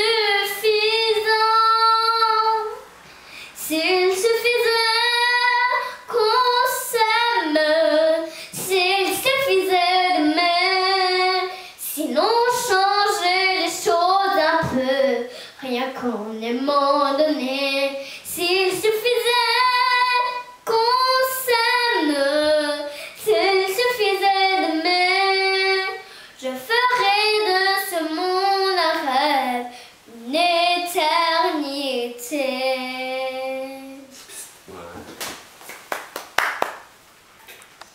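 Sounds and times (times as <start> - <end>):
girl singing unaccompanied: 0.0 - 34.2.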